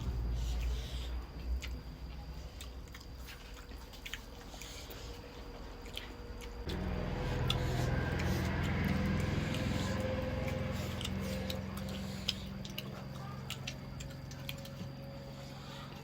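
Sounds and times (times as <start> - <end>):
steady low hum: 0.0 - 16.0
person chewing: 0.1 - 16.0.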